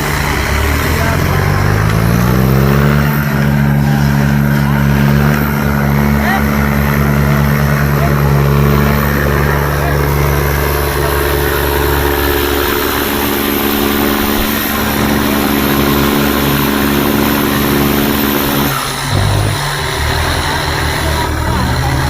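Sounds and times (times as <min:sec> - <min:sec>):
tractor engines roaring: 0:00.0 - 0:22.0.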